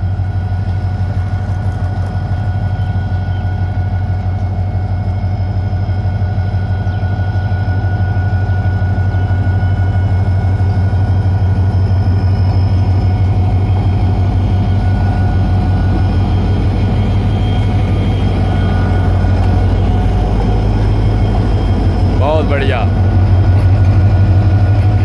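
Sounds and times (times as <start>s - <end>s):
diesel locomotive engine drone: 0.0s - 25.0s
steady whine: 0.0s - 25.0s.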